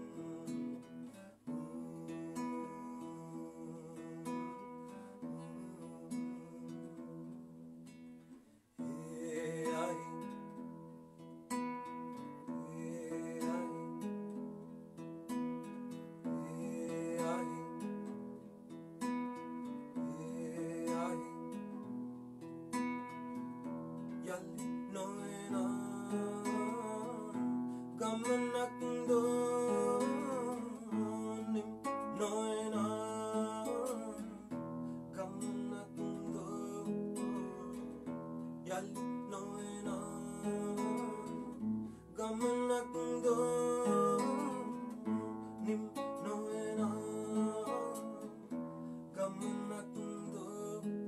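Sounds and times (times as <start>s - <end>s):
man singing: 0.0s - 7.4s, 8.8s - 10.9s, 12.2s - 14.4s, 16.2s - 18.3s, 19.7s - 22.0s, 24.1s - 51.0s
acoustic guitar strummed and picked: 0.0s - 51.0s.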